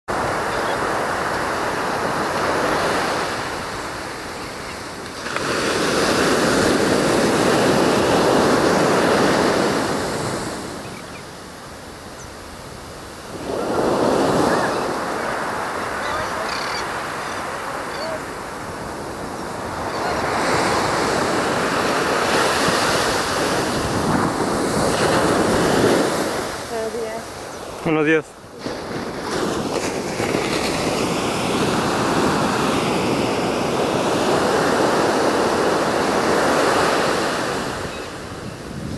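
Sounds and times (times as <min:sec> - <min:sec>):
sea waves breaking on shore: 0:00.1 - 0:38.9.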